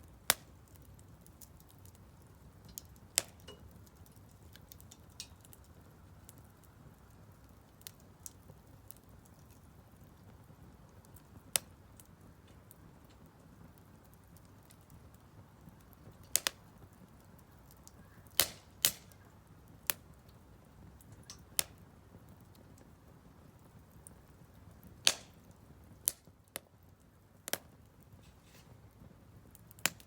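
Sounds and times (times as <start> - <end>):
firewood crackling and popping: 0.0 - 30.0.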